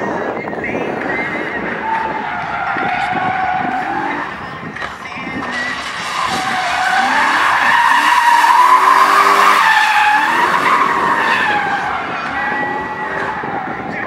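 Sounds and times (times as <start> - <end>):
car engine revving: 0.6 - 14.0
tyres squealing: 1.1 - 14.0.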